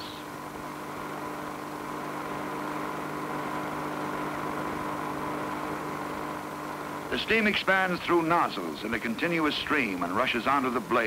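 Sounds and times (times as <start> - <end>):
steam turbine humming: 0.0 - 11.0.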